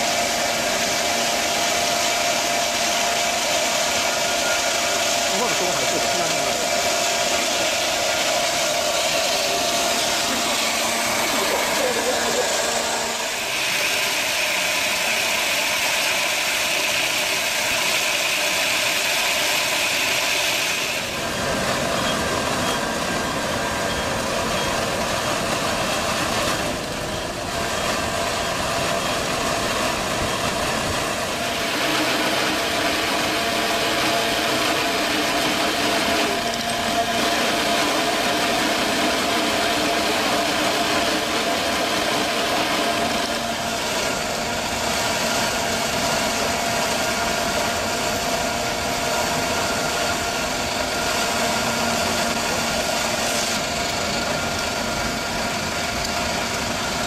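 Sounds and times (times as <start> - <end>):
sawing machine cutting log: 0.0 - 57.0.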